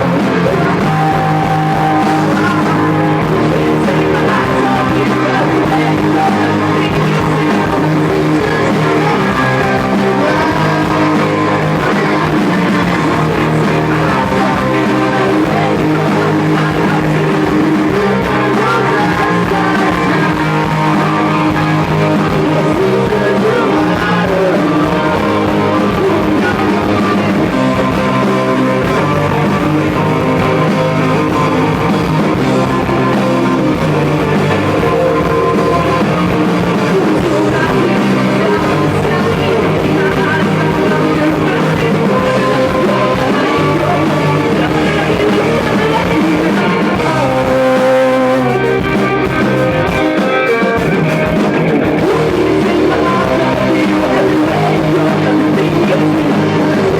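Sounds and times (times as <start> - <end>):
electric guitar: 0.0 - 56.9
rock band playing live: 0.0 - 56.9.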